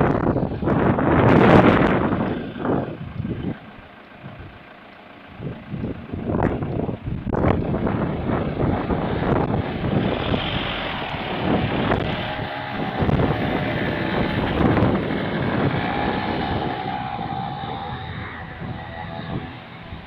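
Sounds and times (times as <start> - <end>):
steady whine: 0.0 - 20.0
vehicle rumbling past: 0.0 - 20.0
wind buffeting microphone: 0.0 - 20.0.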